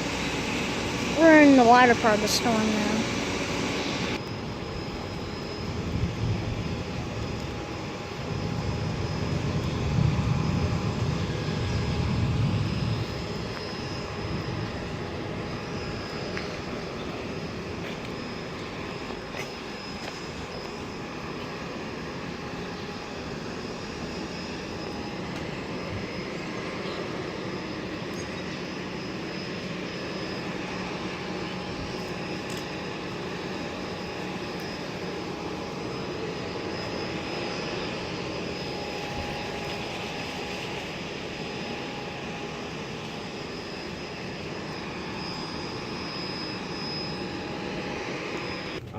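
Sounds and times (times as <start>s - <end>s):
aircraft engines droning: 0.0s - 48.9s.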